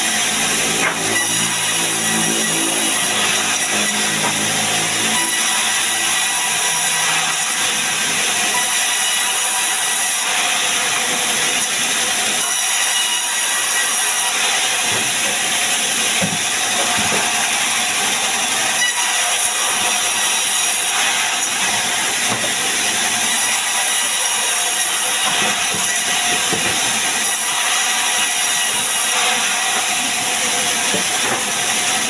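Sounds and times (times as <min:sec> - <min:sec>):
band saw cutting log: 0:00.0 - 0:32.0.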